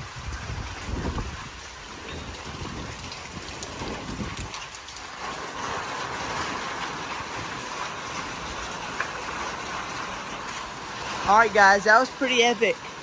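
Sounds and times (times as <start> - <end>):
wind buffeting the microphone: 0.0 - 12.2
wind gusting: 0.0 - 13.0.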